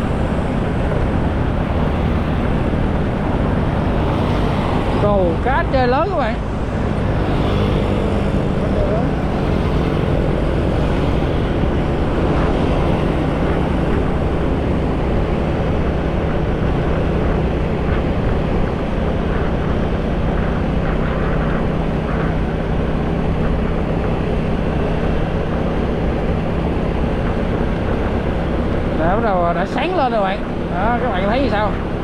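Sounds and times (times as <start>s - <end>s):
motorcycle engine droning: 0.0s - 32.0s
wind noise on microphone: 0.0s - 32.0s.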